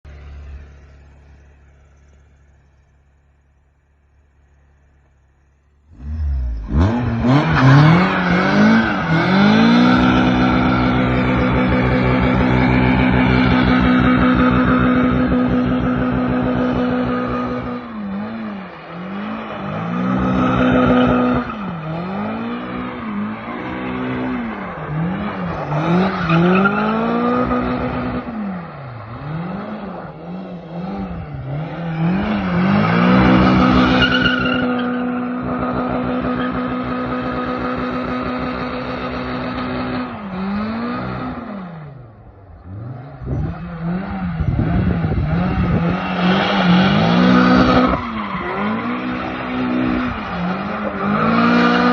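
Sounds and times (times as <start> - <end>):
car engine revving: 5.8 - 51.9.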